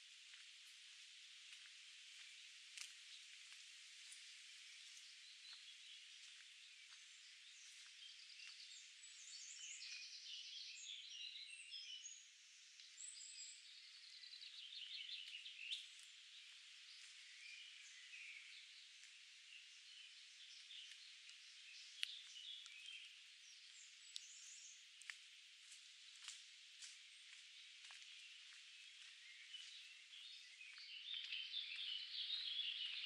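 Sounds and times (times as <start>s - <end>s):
songbirds singing: 1.2s - 33.0s.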